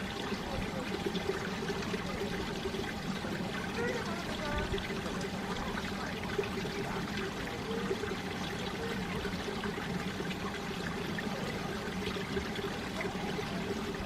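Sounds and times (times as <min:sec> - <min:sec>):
stream running water: 0:00.0 - 0:14.0.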